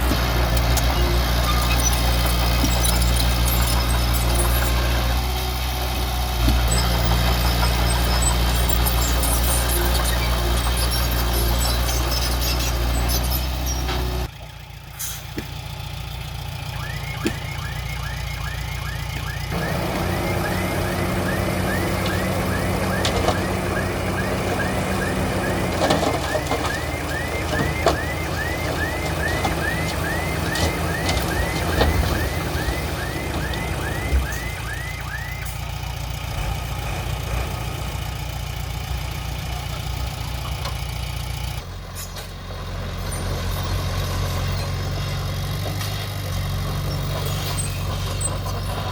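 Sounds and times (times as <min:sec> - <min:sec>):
heavy machinery diesel engine: 0:00.0 - 0:48.9.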